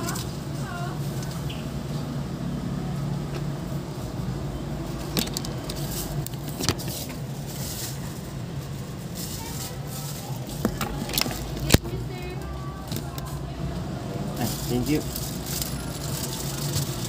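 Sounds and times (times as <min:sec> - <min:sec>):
car engine humming in cabin: 0:00.0 - 0:17.0.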